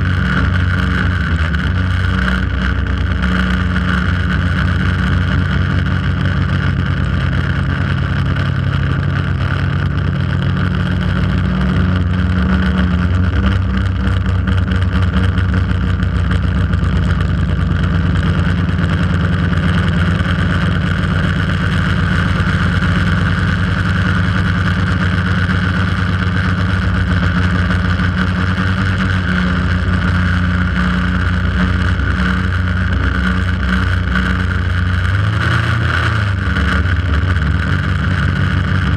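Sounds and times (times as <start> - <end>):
drone propellers whining: 0.0 - 38.9.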